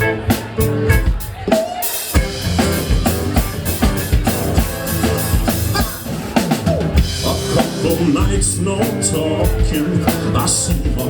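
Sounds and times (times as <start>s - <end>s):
hip-hop drum beat with bass: 0.0s - 11.0s.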